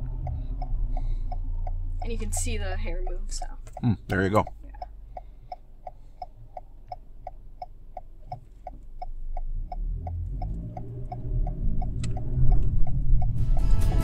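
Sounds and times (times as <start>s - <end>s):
turn signal ticking: 0.0s - 13.7s
car engine and tyres rumbling: 0.0s - 14.0s.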